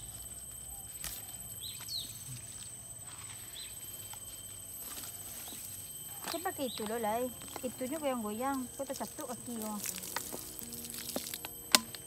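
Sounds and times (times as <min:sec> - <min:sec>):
bird chirping: 0:00.0 - 0:02.6, 0:03.2 - 0:11.6.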